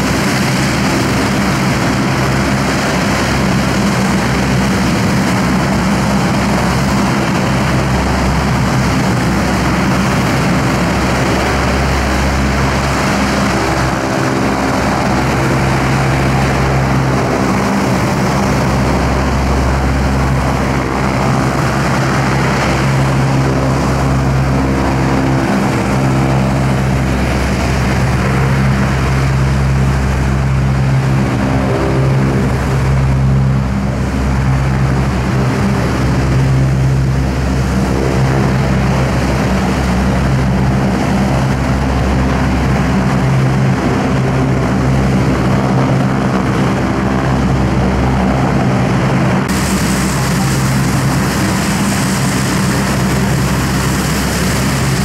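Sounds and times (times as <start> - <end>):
aircraft engines droning: 0.0 - 55.0.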